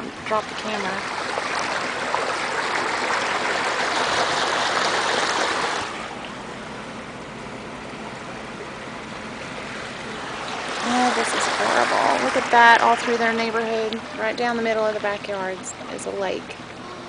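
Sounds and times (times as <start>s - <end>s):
floodwater rushing against car: 0.0s - 17.0s.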